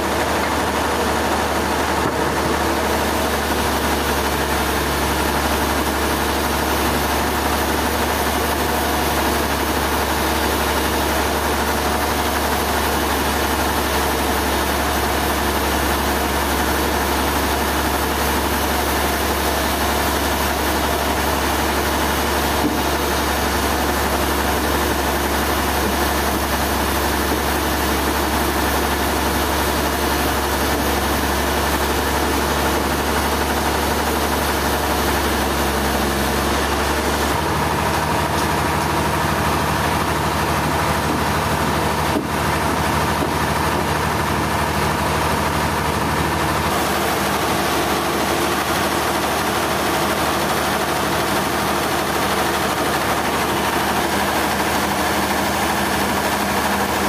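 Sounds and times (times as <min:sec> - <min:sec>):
sawmill machinery droning: 0:00.0 - 0:57.0.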